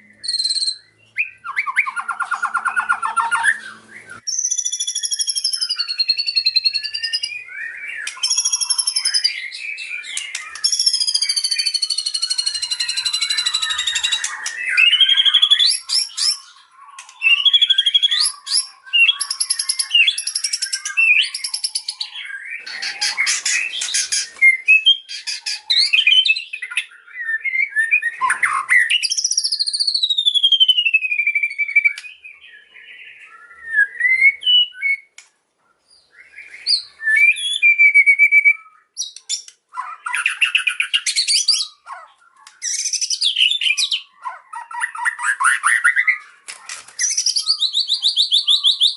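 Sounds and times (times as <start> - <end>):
songbird singing trills and whistles: 0.0 - 48.9.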